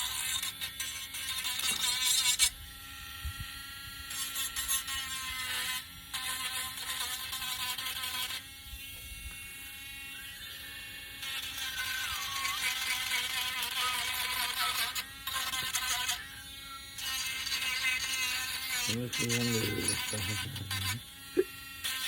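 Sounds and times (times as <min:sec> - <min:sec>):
electric sander on wood: 0:00.0 - 0:22.0.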